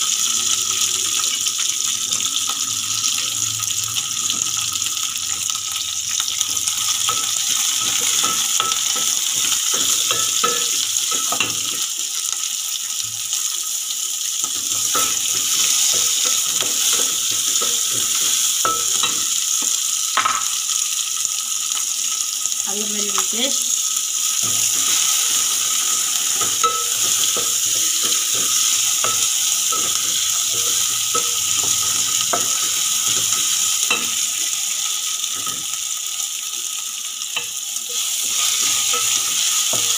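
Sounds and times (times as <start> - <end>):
onions sizzling in a pot: 0.0 - 39.9.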